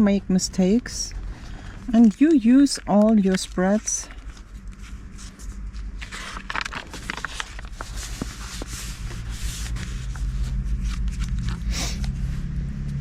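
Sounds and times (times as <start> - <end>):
paper rubbing and rustling: 1.6 - 12.5.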